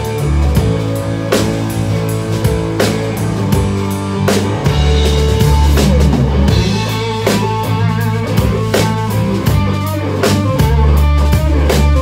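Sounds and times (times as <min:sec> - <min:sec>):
drum kit hits: 0:00.0 - 0:12.0
electric guitar and bass: 0:00.0 - 0:12.0.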